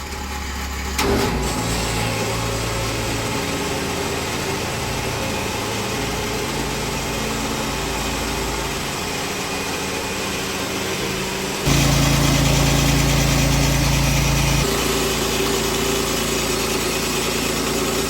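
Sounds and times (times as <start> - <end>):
small gas engine running: 0.0 - 18.0.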